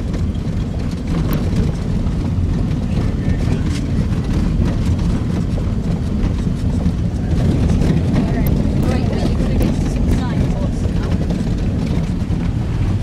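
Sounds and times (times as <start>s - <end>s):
engine and tyres rumbling: 0.0s - 13.0s
faint knocks and rattles: 0.0s - 13.0s.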